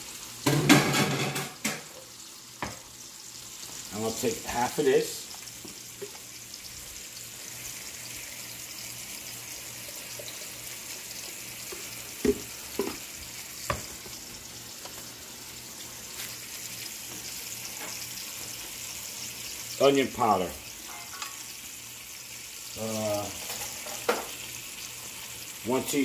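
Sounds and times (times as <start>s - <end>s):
chicken sizzling in a skillet: 0.0s - 26.0s.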